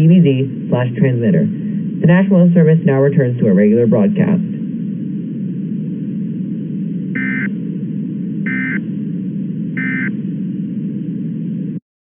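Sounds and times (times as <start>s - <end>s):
radio static hiss: 0.0s - 11.8s.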